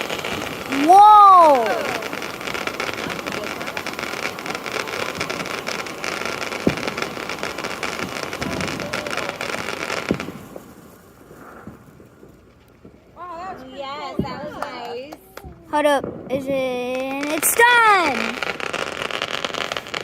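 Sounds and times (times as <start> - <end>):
fireworks crackling: 0.0 - 20.0
sharp firework pops: 0.0 - 20.0.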